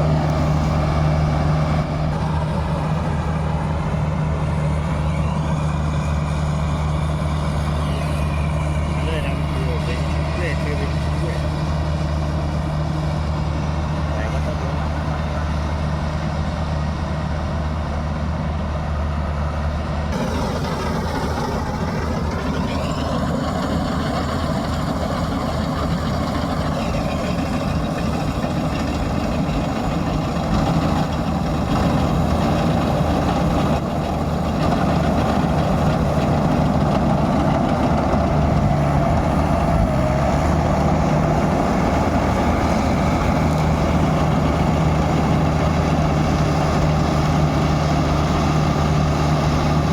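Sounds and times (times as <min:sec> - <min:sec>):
combine harvester engine hum: 0:00.0 - 0:49.9.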